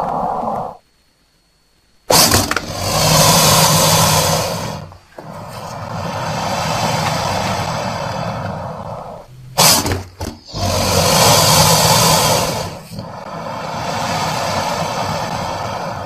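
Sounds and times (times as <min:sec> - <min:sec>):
crocodile growling: 0:00.0 - 0:00.8, 0:02.1 - 0:16.0.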